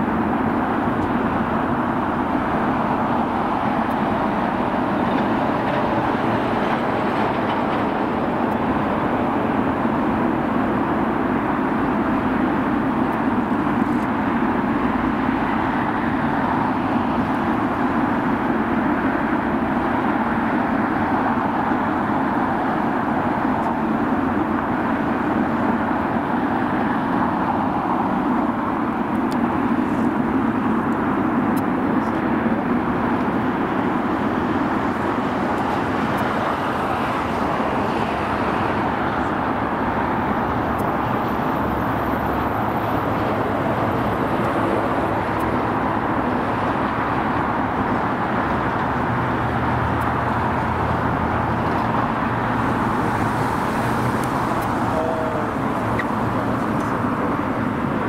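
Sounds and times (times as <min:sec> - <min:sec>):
distant engines roaring: 0:00.0 - 0:58.0.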